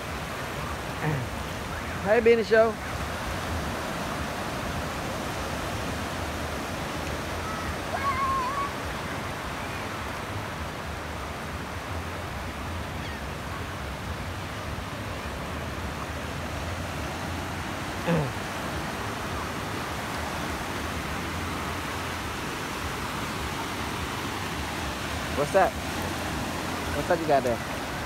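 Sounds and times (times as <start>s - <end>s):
small waves breaking: 0.0s - 28.0s.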